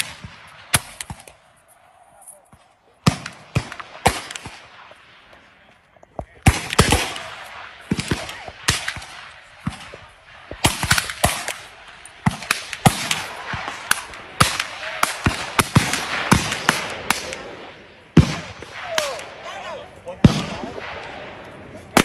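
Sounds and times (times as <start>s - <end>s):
musket shots: 0.0s - 1.5s, 3.0s - 5.5s, 6.2s - 19.5s, 20.2s - 22.0s.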